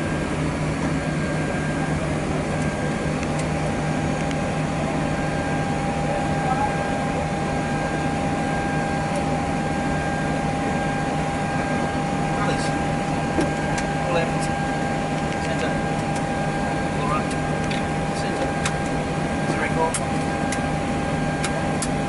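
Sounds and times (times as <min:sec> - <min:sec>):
low cockpit drone: 0:00.0 - 0:22.0.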